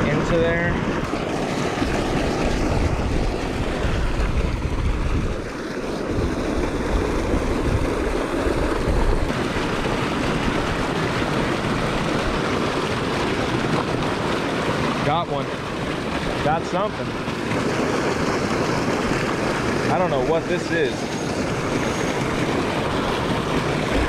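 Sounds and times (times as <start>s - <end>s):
wind buffeting microphone: 0.0s - 20.2s
water gushing: 0.0s - 24.0s.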